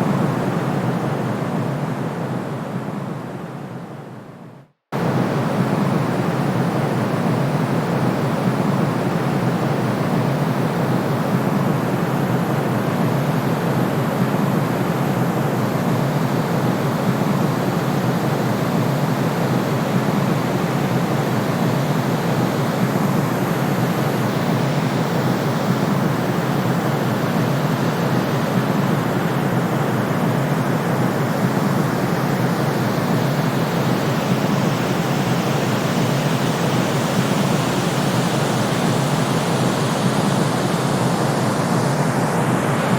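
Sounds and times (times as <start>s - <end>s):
white noise hiss: 5.0s - 42.9s.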